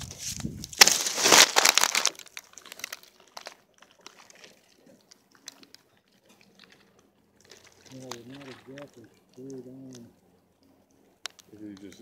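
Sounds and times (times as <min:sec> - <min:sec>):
faint clicks and rustles: 0:00.0 - 0:12.0.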